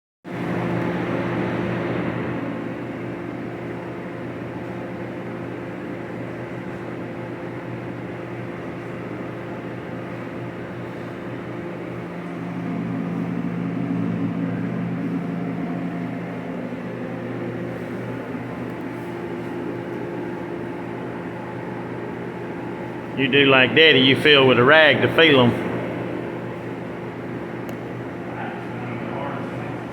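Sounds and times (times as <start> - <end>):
machine hum with tones: 0.3 - 29.9.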